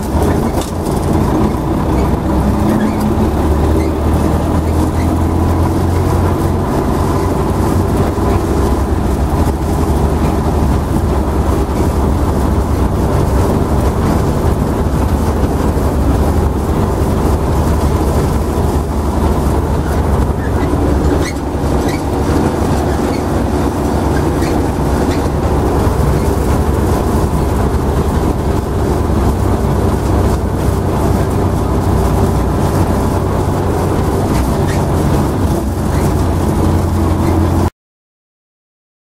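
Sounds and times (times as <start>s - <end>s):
tractor and trailer rattling: 0.0s - 37.7s
tractor diesel engine running: 0.0s - 37.7s.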